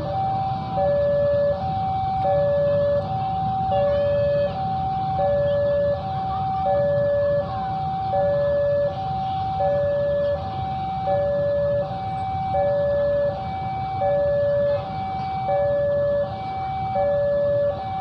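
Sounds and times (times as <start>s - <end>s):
level crossing two-tone alarm: 0.0s - 18.0s.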